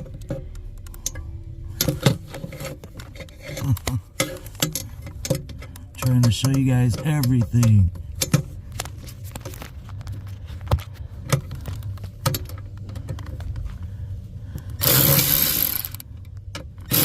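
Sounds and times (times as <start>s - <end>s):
parts clicking and knocking: 0.0s - 13.9s, 14.6s - 17.0s.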